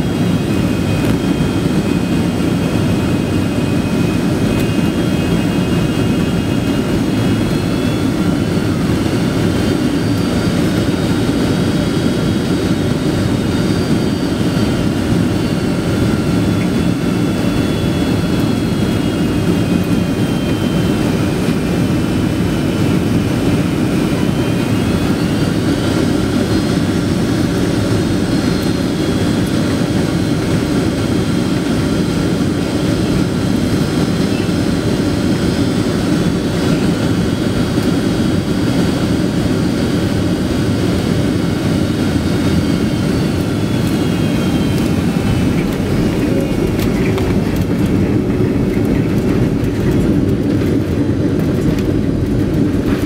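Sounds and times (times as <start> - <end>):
high engine whine: 0.0 - 53.0
jet cabin engine rush: 0.0 - 53.0.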